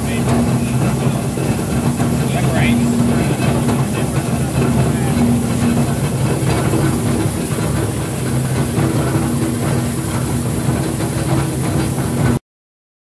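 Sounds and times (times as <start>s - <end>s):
machine droning with low hum: 0.0s - 12.4s.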